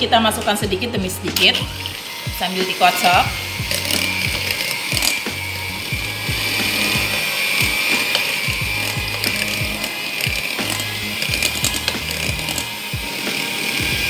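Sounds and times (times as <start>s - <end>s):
electric hand mixer whine: 0.0s - 14.0s.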